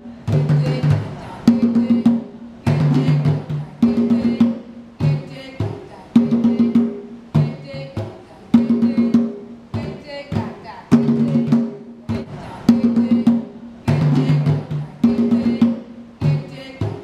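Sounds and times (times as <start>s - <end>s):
pitched drum rhythm: 0.0s - 17.0s.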